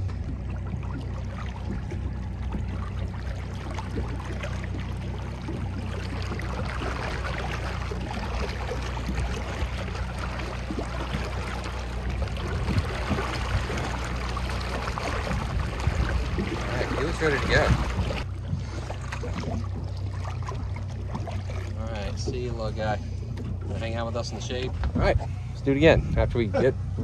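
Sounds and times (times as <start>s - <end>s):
boat engine droning: 0.0s - 27.0s
water splashing along boat hull: 0.0s - 27.0s.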